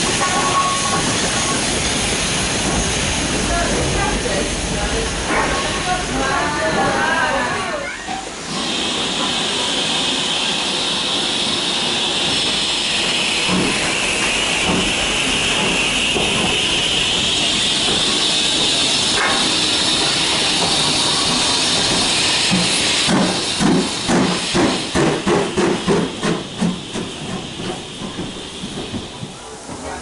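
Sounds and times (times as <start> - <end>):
locomotive steam hiss: 0.0 - 30.0
steam locomotive chuffing: 0.0 - 30.0.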